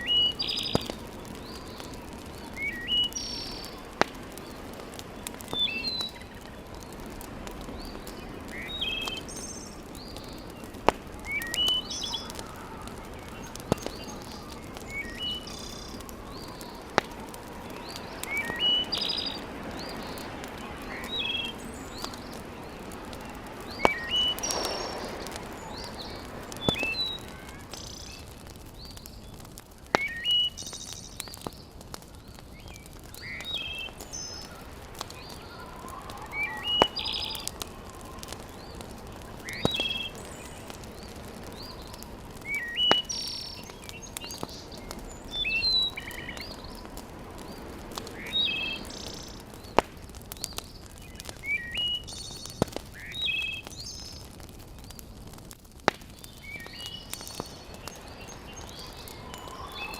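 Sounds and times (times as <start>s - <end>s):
birds chirping: 0.0s - 59.9s
wood fire crackling: 0.0s - 59.9s.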